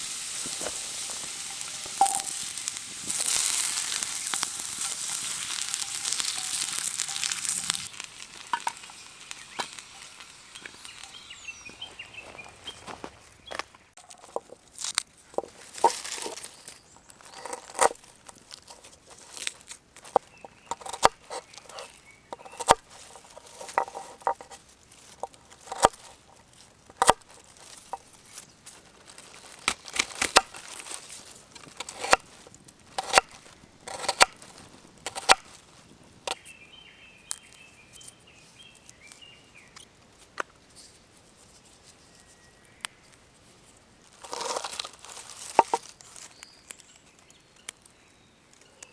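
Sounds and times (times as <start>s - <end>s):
things being handled: 0.0s - 36.4s, 39.7s - 46.9s.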